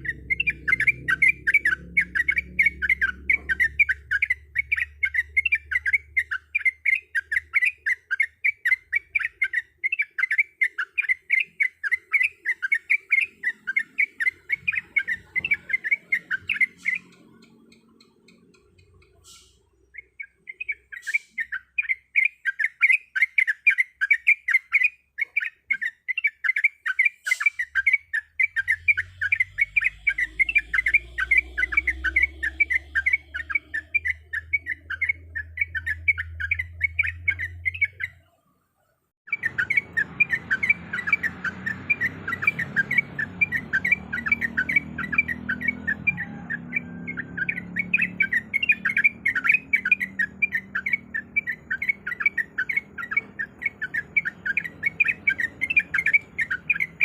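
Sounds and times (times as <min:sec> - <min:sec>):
bird chattering song: 0:00.0 - 0:38.5, 0:39.3 - 0:57.0.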